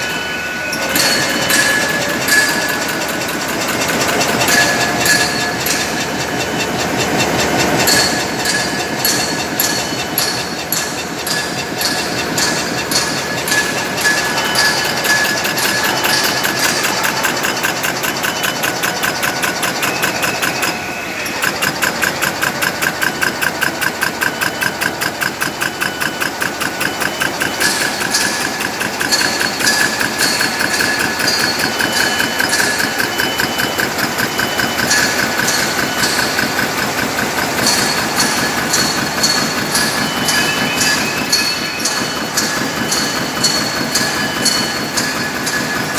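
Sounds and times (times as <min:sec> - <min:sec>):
bag-making machine clattering: 0:00.0 - 0:45.9.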